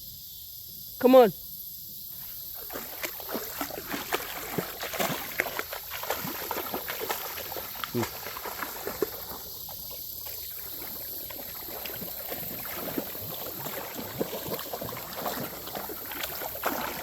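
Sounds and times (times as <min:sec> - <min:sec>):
creek flowing: 0:02.2 - 0:17.0
water splashing: 0:02.2 - 0:17.0.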